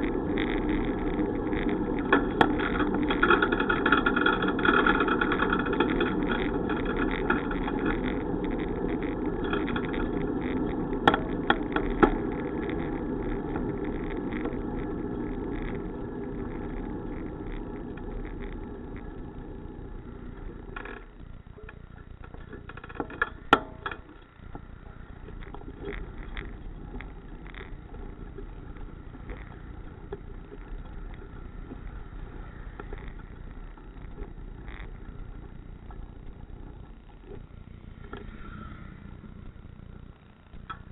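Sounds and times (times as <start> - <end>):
road vehicle running: 0.0 - 40.9.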